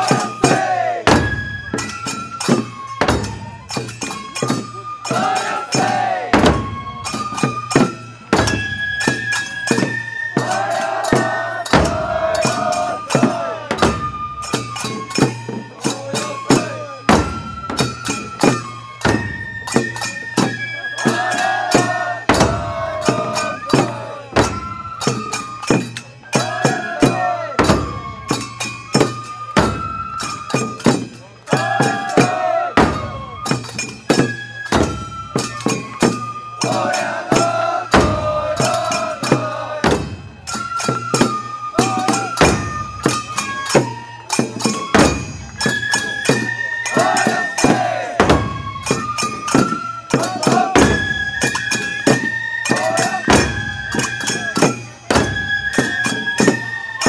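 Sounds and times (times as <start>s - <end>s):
quick taiko drum strokes: 0.0s - 56.8s
festival flute melody: 0.0s - 57.0s.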